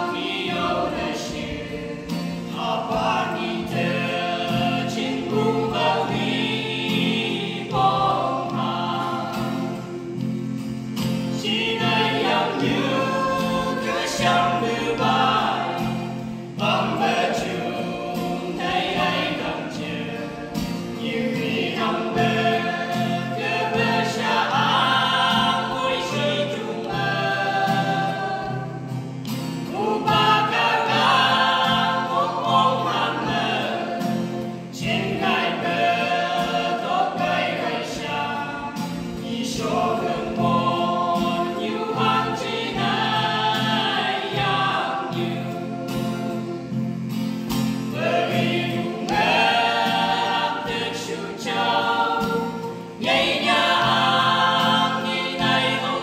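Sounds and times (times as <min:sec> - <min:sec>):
group singing in harmony: 0:00.0 - 0:56.0
strummed acoustic guitar: 0:00.0 - 0:56.0.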